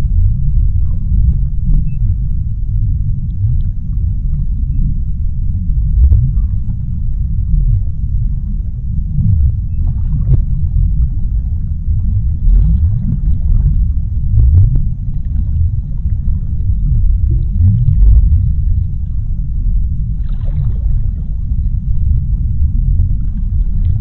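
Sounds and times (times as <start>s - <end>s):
low moaning tones: 0.0s - 24.0s
underwater low rumble: 0.0s - 24.0s.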